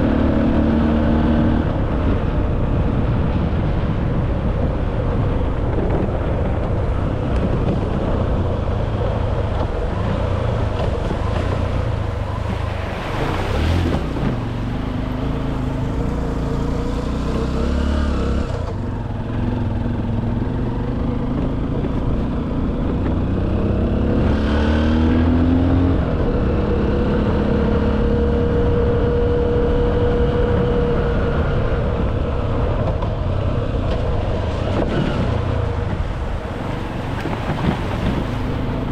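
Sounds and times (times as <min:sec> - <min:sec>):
wind noise: 0:00.0 - 0:38.9.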